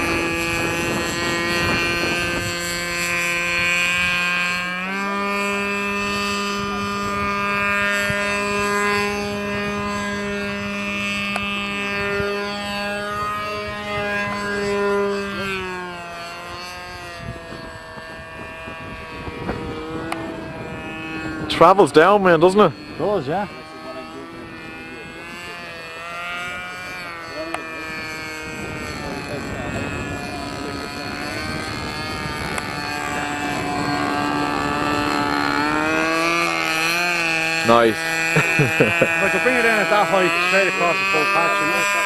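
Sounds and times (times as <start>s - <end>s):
model airplane motor and propeller: 0.0s - 42.0s.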